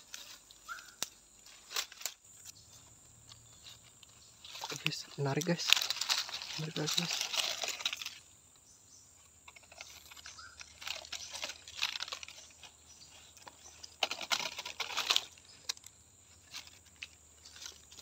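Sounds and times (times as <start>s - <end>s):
leaves and twigs rustling: 0.0s - 18.0s.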